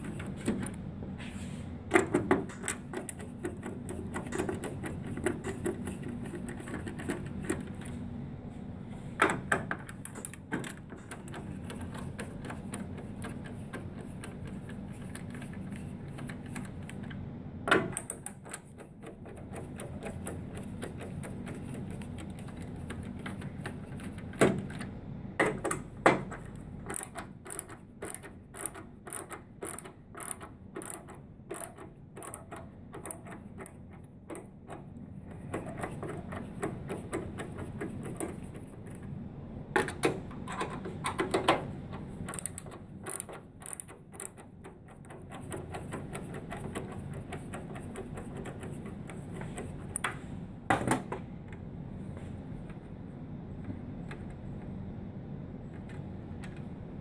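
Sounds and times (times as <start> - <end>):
sharp clicks and knocks: 1.9 - 8.0, 9.2 - 39.1, 39.8 - 51.7.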